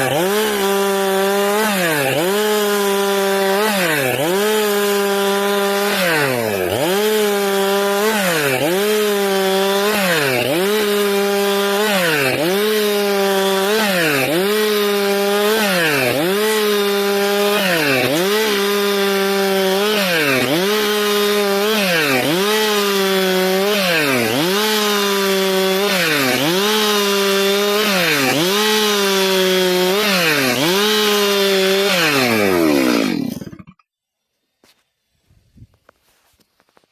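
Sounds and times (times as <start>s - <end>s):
chainsaw sawing boards: 0.0s - 35.0s, 35.6s - 36.9s.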